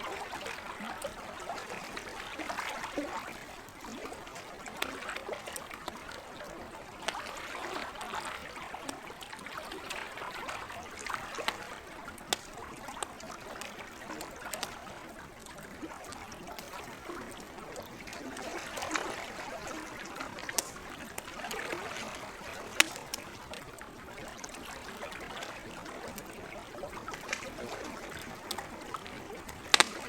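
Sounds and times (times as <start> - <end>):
campfire crackling and popping: 0.0 - 30.0
lake water lapping: 0.0 - 30.0.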